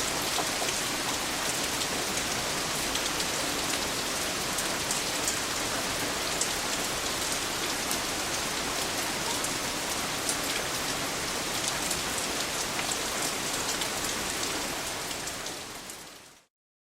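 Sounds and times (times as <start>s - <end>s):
steady rain hiss: 0.0s - 16.5s.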